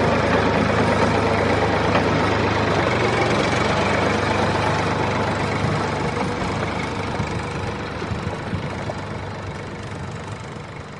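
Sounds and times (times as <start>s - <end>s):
engine idling: 0.0s - 10.9s.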